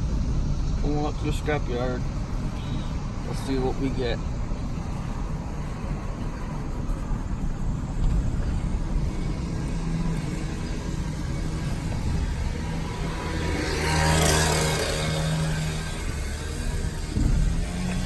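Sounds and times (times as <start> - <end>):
rushing noise: 0.0 - 18.0
truck engine running: 0.0 - 18.0
tyre and road rumble: 0.0 - 18.0.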